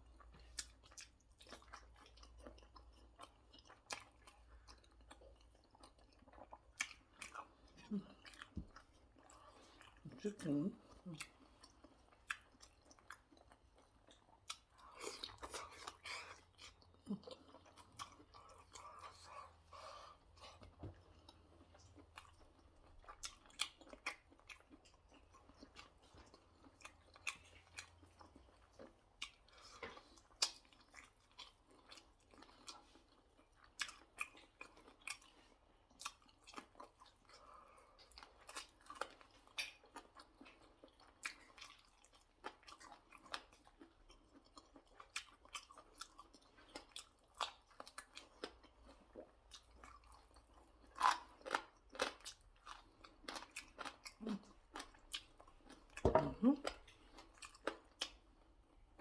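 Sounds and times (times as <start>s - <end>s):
chewing chicken wings: 0.0s - 59.0s.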